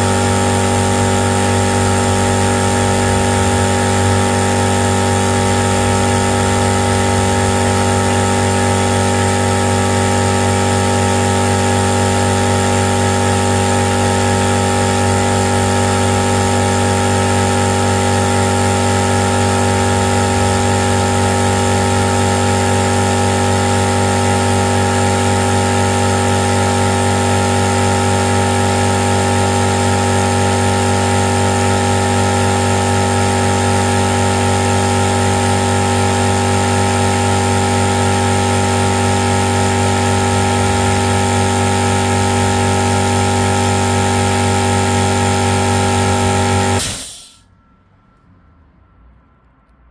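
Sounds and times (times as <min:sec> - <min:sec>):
machine humming steadily: 0:00.0 - 0:48.6.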